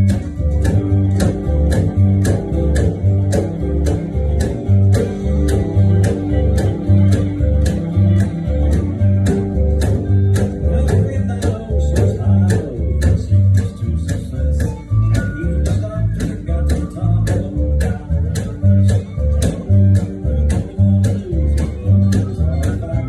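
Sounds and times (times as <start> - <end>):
guitar: 0.0 - 23.0
plucked upright bass: 0.0 - 23.0
steady clicking beat: 0.0 - 23.0.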